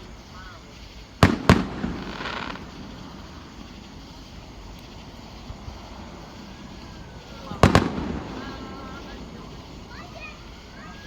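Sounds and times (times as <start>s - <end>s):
firework shells bursting: 0.0s - 11.0s
fizzing hiss: 0.0s - 11.0s
low outdoor rumble: 0.0s - 11.0s.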